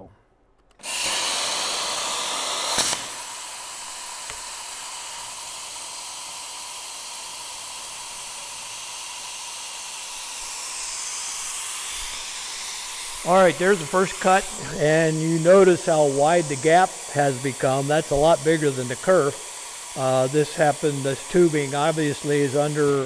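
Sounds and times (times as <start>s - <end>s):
plasma torch hissing: 0.8s - 23.0s
faint steady whine: 2.9s - 23.0s.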